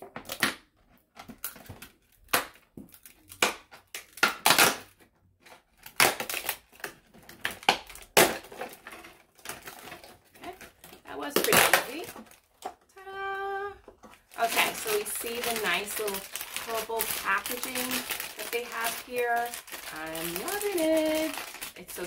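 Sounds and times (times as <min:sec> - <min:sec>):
plastic packaging crackling: 0:00.0 - 0:12.8, 0:13.8 - 0:22.0.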